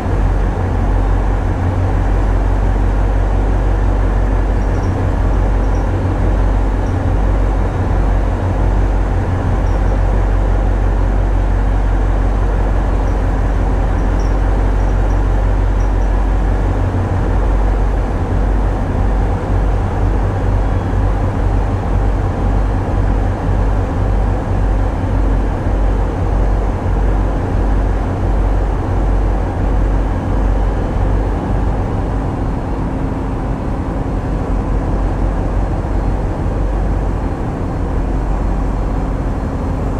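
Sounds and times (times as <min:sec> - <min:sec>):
diesel engines rumbling: 0:00.0 - 0:39.9
faint steady hum: 0:00.0 - 0:39.9.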